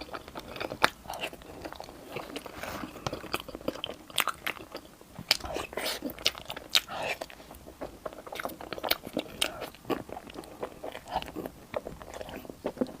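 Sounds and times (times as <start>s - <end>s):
person chewing and biting food: 0.0s - 13.0s.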